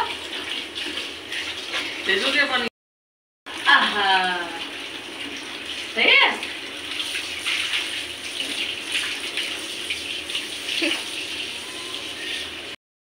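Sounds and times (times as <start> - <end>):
water splashing in a bucket: 0.0 - 2.3, 3.5 - 12.6.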